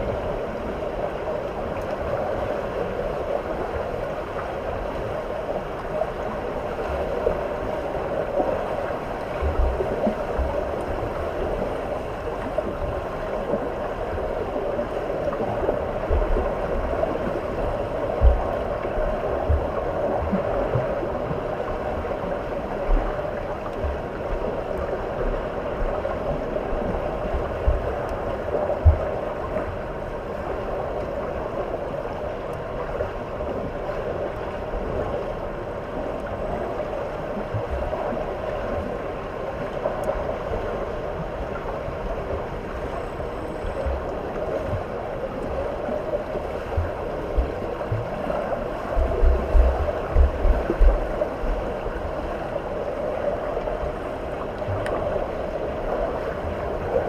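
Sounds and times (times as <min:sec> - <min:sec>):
water rushing and sloshing: 0:00.0 - 0:57.0.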